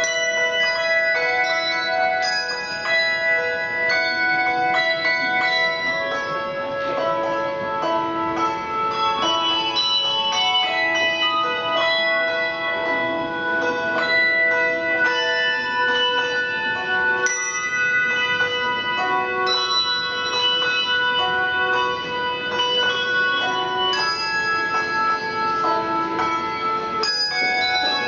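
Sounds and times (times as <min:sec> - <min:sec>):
handbells playing a melody: 0:00.0 - 0:28.0.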